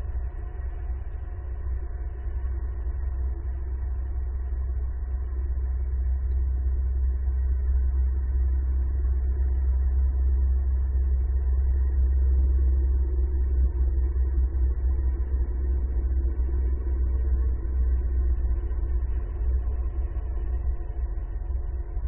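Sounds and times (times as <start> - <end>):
low engine-like rumble: 0.0 - 22.0.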